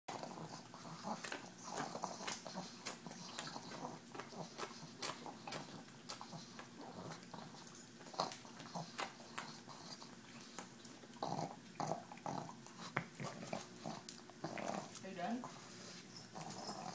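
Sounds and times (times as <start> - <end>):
dog licking and chewing: 0.1 - 16.9
dog snorting: 0.1 - 16.9.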